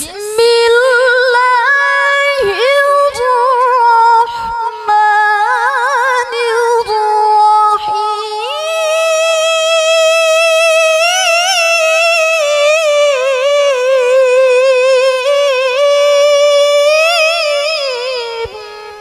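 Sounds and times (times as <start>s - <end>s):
woman reciting melodically: 0.0s - 19.0s.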